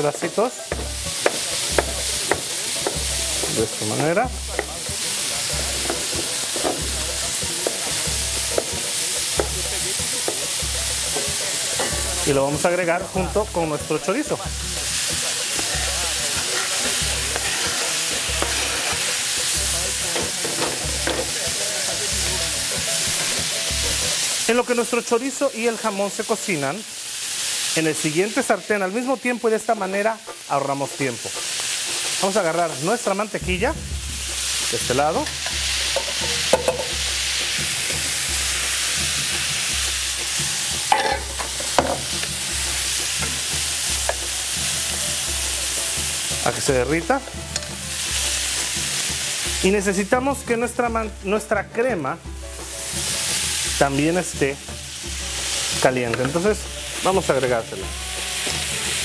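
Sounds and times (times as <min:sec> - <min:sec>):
meat sizzling in a frying pan: 0:00.0 - 0:59.0.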